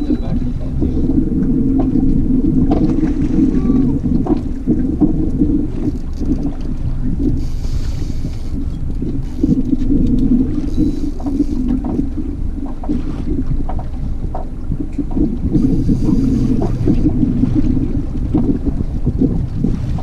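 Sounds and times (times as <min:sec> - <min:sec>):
water noise around boat: 0:00.0 - 0:20.0
wind buffeting microphone: 0:00.0 - 0:20.0.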